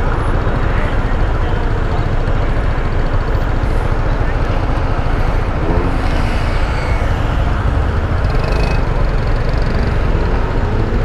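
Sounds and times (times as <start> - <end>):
motorcycle engine rumble: 0.0 - 11.0
road noise: 0.0 - 11.0.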